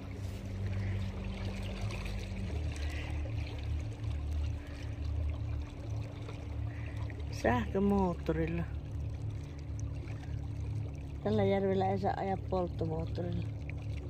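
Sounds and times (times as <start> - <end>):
electric boat motor hum: 0.0 - 14.0
water splashing along hull: 0.0 - 14.0.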